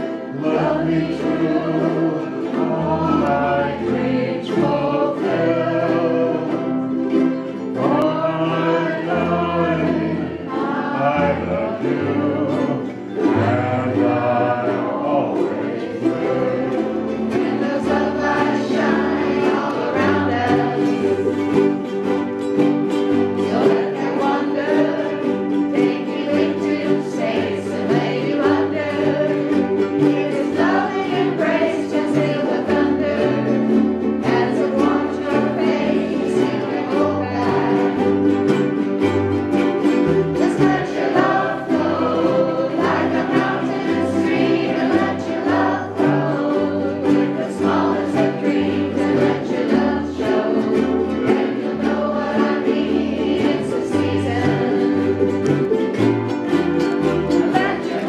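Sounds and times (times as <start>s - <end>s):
group singing: 0.0s - 58.0s
strummed ukuleles: 0.0s - 58.0s.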